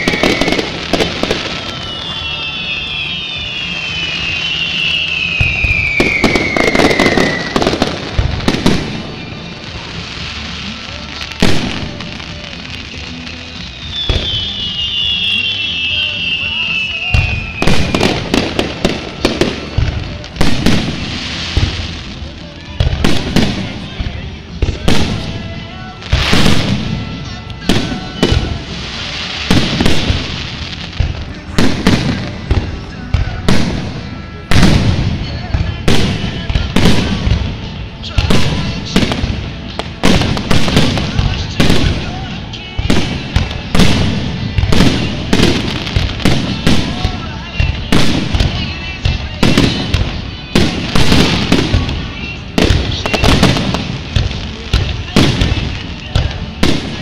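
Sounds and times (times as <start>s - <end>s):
fireworks booming: 0.0s - 57.0s
fireworks crackling and hissing: 0.0s - 57.0s.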